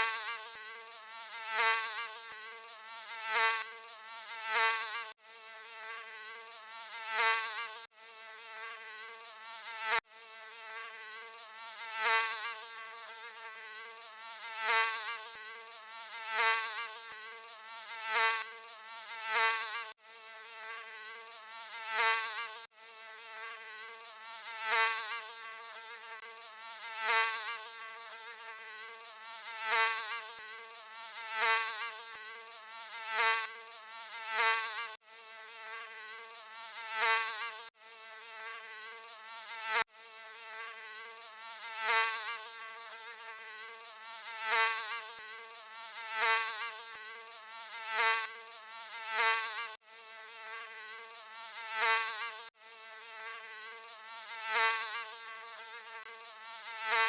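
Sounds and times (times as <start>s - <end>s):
mosquito buzzing: 0.0s - 57.0s.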